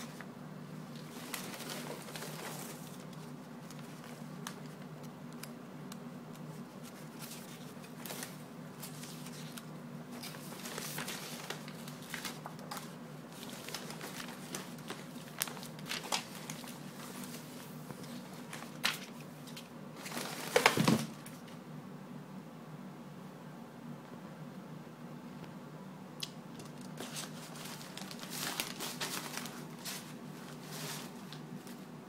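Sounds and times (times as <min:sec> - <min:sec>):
paper rustling and crinkling: 0:00.0 - 0:05.6, 0:06.3 - 0:21.5, 0:26.6 - 0:31.9
steady low hum: 0:00.0 - 0:32.0.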